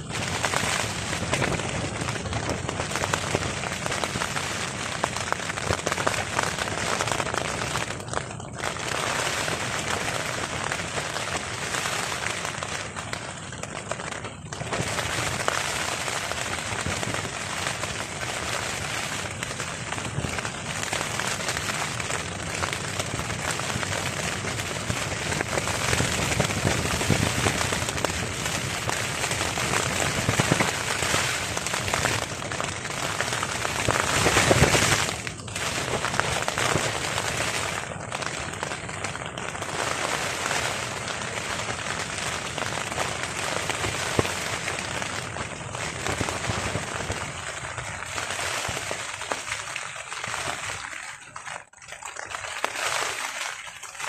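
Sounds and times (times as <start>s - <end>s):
heavy rain on a tarp: 0.0s - 54.0s.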